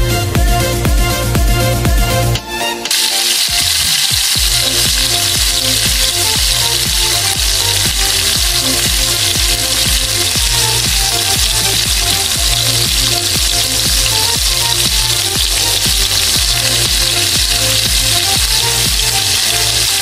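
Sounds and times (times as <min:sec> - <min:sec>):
background music with steady beat: 0:00.0 - 0:20.0
food sizzling in oil: 0:02.9 - 0:20.0.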